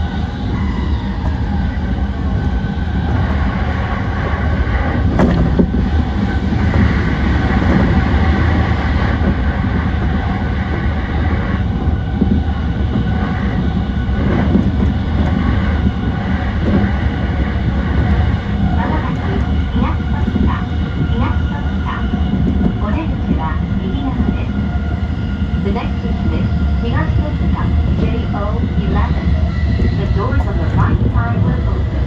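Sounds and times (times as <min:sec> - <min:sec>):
rail joint clacks: 0:00.0 - 0:25.0, 0:25.6 - 0:32.0
train wheels rumbling on rails: 0:00.0 - 0:32.0.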